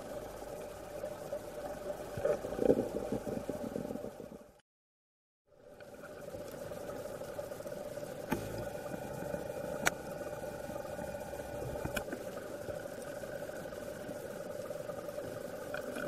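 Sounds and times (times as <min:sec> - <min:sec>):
underwater droning hum: 0:00.0 - 0:04.6, 0:05.5 - 0:16.0.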